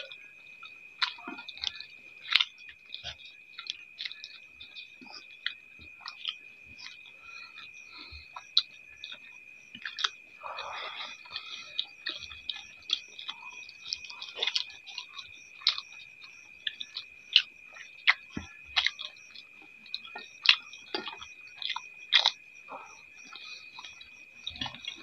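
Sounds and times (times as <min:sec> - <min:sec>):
chewing and mouth noises: 0:00.0 - 0:25.0.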